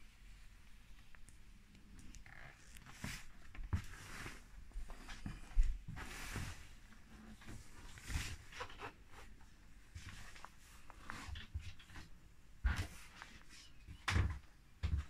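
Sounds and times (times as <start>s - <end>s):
soft knocks and rustles of movement: 0.3s - 15.0s.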